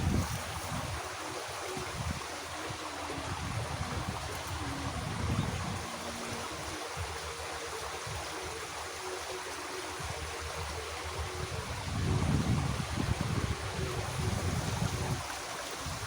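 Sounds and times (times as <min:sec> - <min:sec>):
water running in a ditch: 0:00.0 - 0:16.0.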